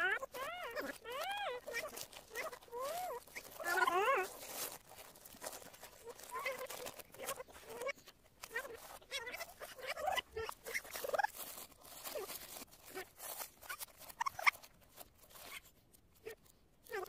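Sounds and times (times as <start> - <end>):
wrapping paper crackling: 0.0 - 17.0.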